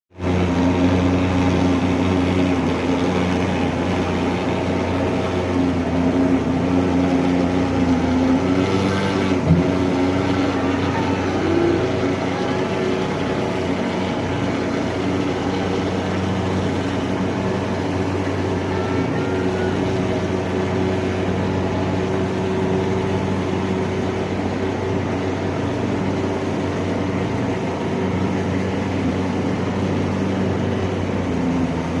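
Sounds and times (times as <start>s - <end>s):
fogging machine engine drone: 0.1s - 32.0s.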